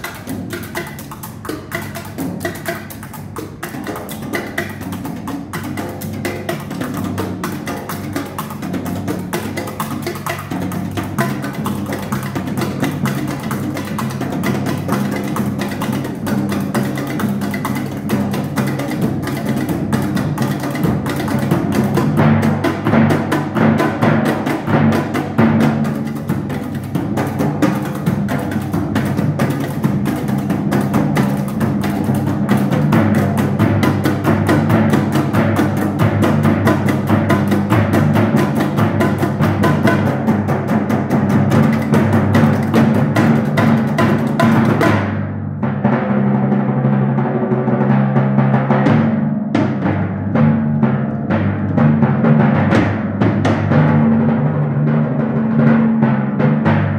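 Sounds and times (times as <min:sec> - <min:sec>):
deep timpani notes: 0:00.0 - 0:56.9
fast drum rhythm: 0:00.0 - 0:56.9.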